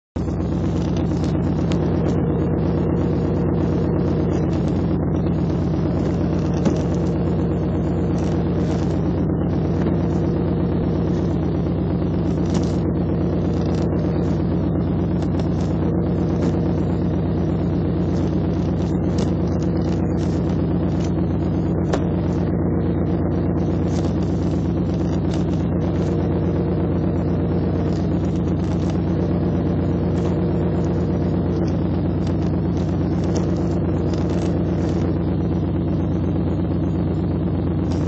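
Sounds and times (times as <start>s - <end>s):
car engine and transmission hum: 0.0s - 38.0s.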